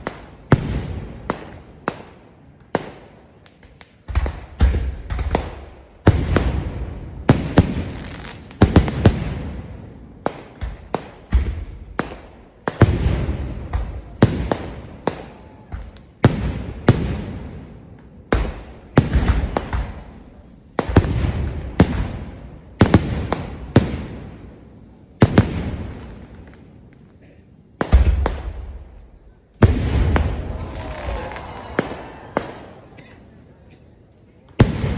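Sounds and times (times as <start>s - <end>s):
fireworks exploding: 0.0s - 34.9s.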